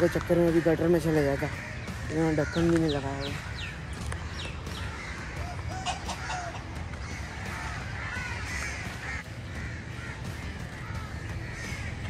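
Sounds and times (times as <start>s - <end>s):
crows cawing: 0.0s - 12.0s.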